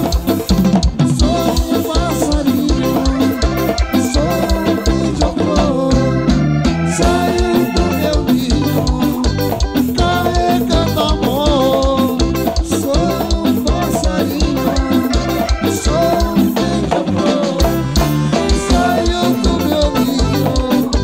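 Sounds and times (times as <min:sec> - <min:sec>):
fast drum beat: 0:00.0 - 0:21.0
live band dance music: 0:00.0 - 0:21.0.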